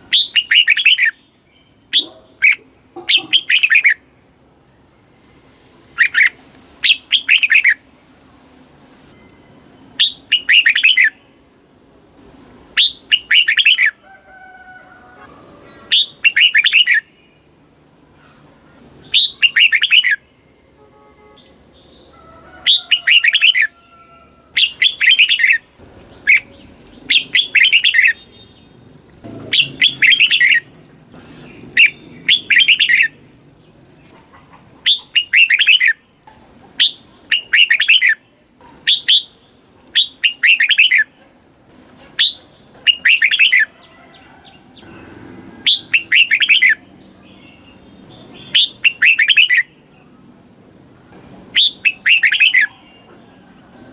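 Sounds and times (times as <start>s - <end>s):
bird chirping phrases: 0.1s - 4.1s, 4.7s - 7.9s, 9.1s - 11.6s, 12.8s - 14.2s, 15.6s - 22.1s, 24.5s - 41.4s, 42.1s - 43.9s, 44.8s - 53.2s.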